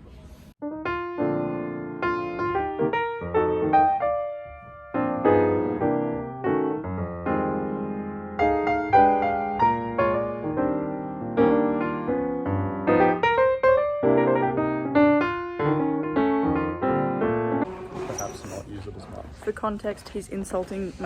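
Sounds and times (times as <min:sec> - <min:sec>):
piano music: 0:00.6 - 0:18.8.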